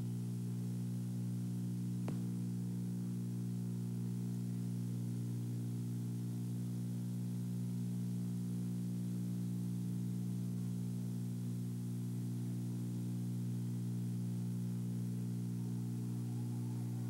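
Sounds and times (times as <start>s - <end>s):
low electrical hum with buzzing: 0.0s - 17.0s.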